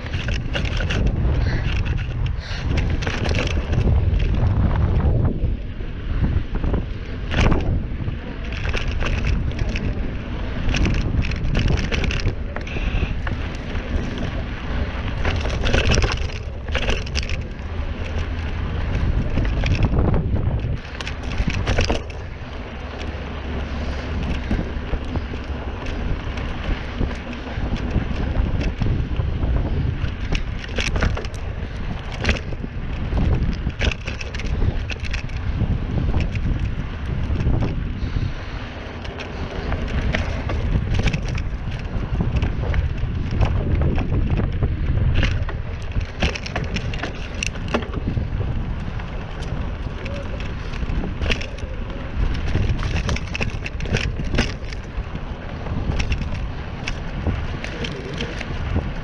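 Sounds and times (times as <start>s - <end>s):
bike rattling over bumps: 0.0s - 59.0s
wind buffeting microphone: 0.0s - 59.0s.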